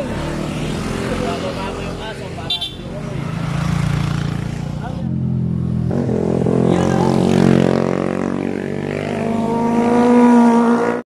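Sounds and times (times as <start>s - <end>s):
motorcycles passing: 0.0s - 11.0s
sport bike accelerating: 0.0s - 11.0s.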